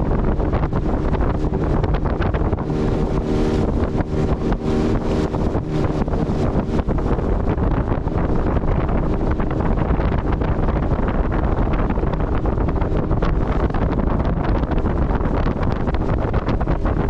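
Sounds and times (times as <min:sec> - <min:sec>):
outboard motor running: 0:00.0 - 0:17.0
water against boat hull: 0:00.0 - 0:17.0
wind buffeting microphone: 0:00.0 - 0:17.0.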